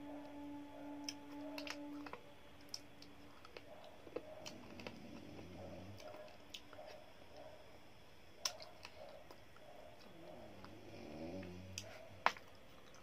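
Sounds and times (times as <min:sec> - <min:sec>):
faint chewing and lip-smacking: 0:01.0 - 0:07.6, 0:08.4 - 0:10.8, 0:11.4 - 0:13.0.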